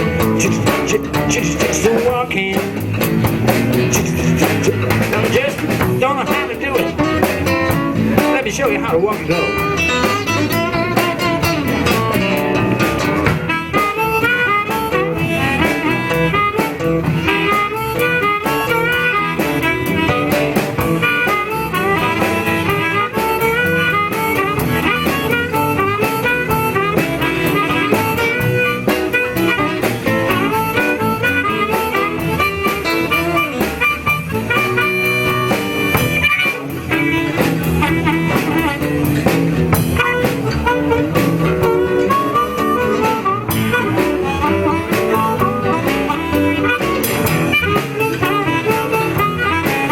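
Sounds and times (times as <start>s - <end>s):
blues band playing: 0.0s - 49.9s
harmonica solo: 8.9s - 49.9s.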